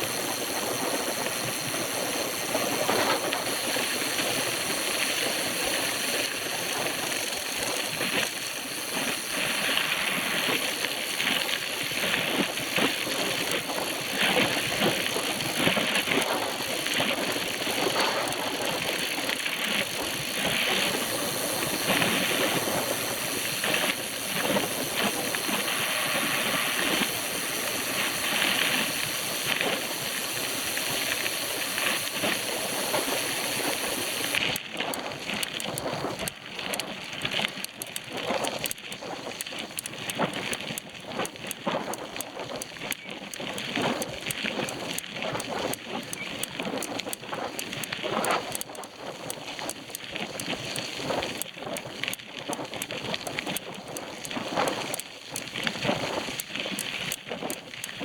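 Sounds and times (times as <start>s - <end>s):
bicycle tyres hissing on rough ground: 0.0s - 58.0s
loose bicycle rattling: 0.0s - 58.0s.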